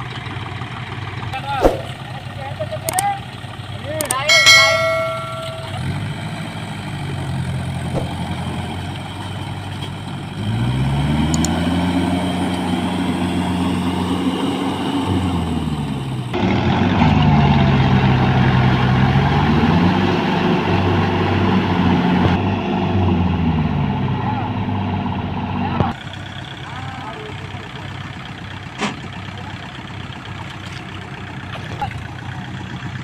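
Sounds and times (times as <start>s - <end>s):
tractor diesel engine revving: 5.7s - 33.0s.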